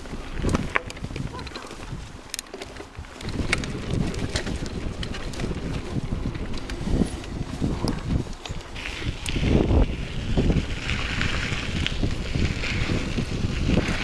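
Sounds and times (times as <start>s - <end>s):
bike clicks and rattles: 0.0s - 14.0s
bike tyre rumble on dirt: 0.0s - 14.0s
wind buffeting microphone: 0.0s - 14.0s.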